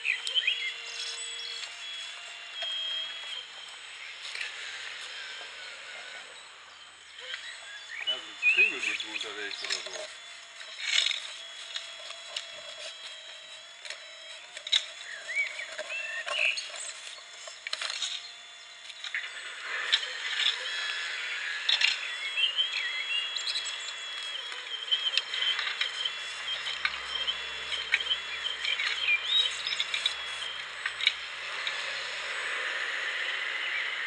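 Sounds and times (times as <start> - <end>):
birds chirping: 0.0 - 34.0
model excavator motor whine: 0.0 - 34.0.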